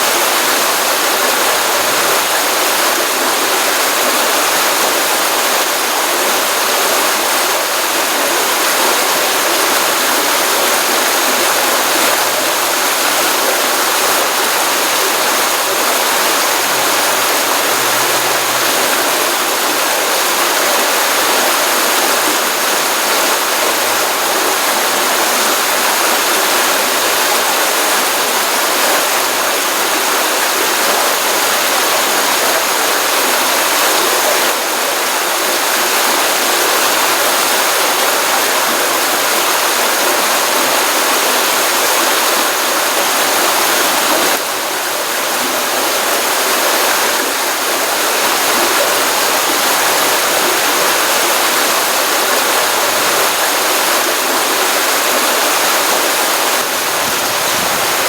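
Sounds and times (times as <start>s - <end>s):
stream water running over rocks: 0.0s - 58.0s.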